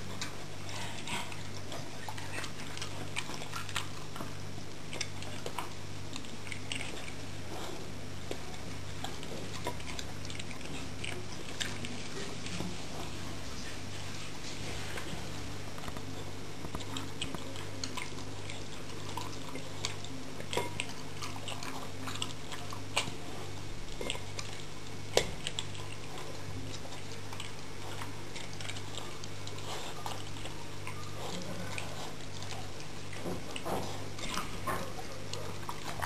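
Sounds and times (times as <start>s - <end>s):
dog licking and chewing: 0.0s - 36.0s
steady low hum: 0.0s - 36.0s.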